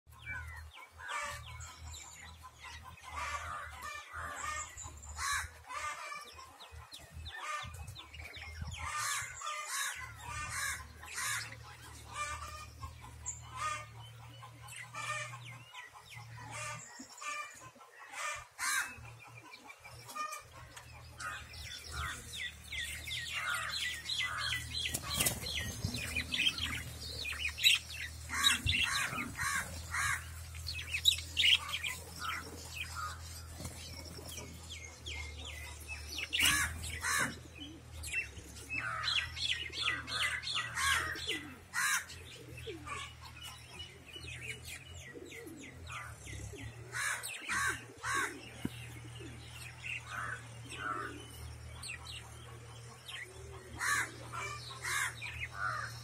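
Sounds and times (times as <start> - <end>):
budgerigars chirping and chattering: 0.1 - 56.0.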